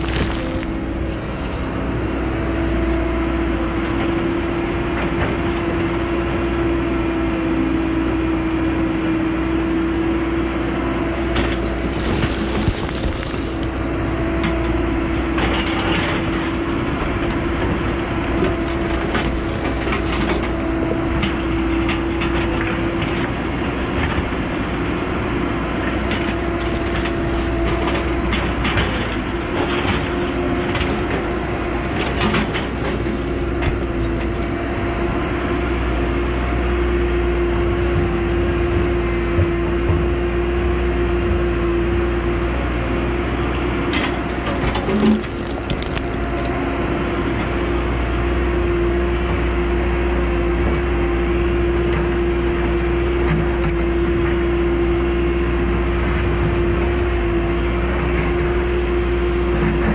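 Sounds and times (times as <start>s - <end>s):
excavator engine droning: 0.0s - 59.9s.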